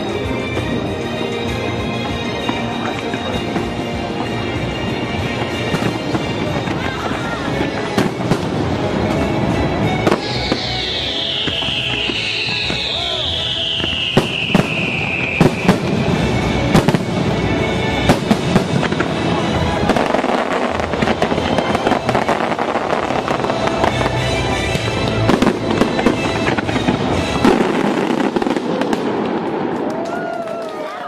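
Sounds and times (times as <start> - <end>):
show music: 0.0 - 29.8
fireworks crackle: 0.0 - 31.0
fireworks bangs: 2.0 - 30.6.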